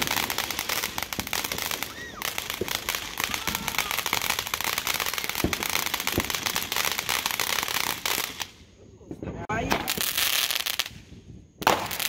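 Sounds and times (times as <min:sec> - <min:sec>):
firework fountain crackling: 0:00.0 - 0:12.0.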